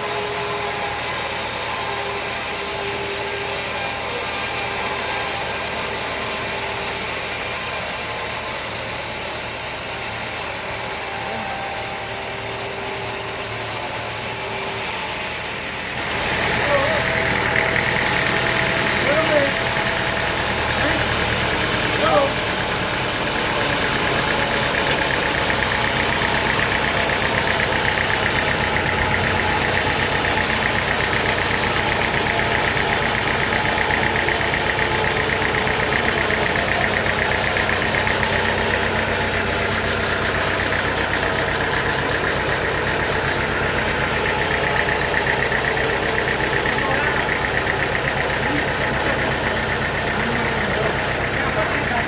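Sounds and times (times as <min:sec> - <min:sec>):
sawmill machinery drone and rattle: 0:00.0 - 0:52.0.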